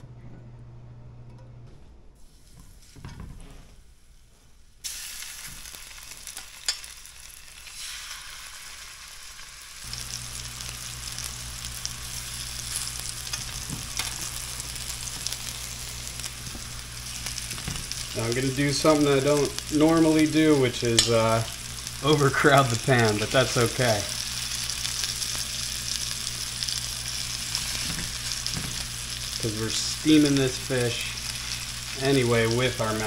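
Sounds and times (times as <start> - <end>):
fish sizzling in hot oil: 4.8 - 33.0.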